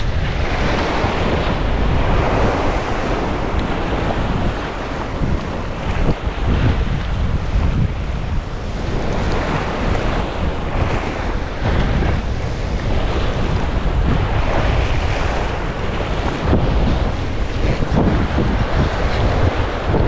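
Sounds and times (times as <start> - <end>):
ocean swell washing over rock: 0.0 - 20.0
wind buffeting the microphone: 0.0 - 20.0.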